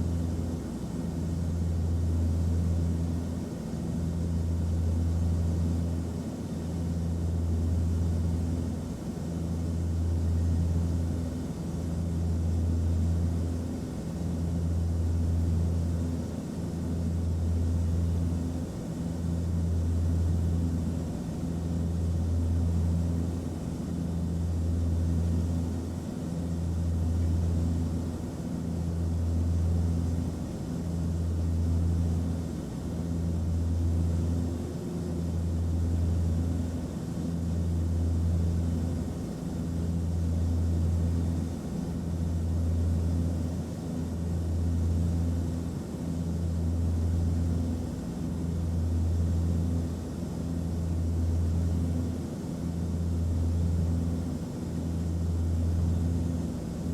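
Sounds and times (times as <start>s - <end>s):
deep engine drone: 0.0s - 56.9s.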